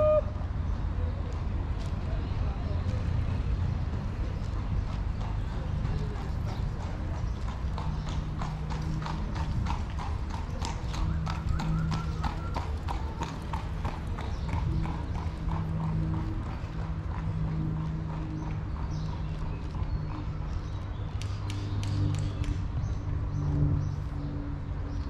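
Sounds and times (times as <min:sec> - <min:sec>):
horse hooves clip-clopping: 0:02.8 - 0:25.0.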